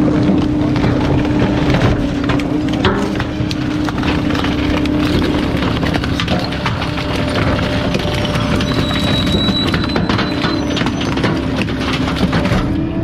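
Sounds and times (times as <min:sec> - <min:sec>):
garbage compactor hum and rumble: 0:00.0 - 0:13.0
wood splintering and snapping: 0:00.0 - 0:13.0.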